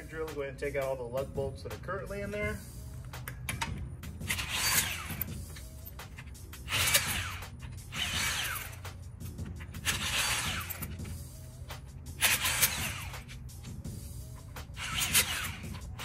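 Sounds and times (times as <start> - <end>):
impact wrench whining: 2.4 - 16.0.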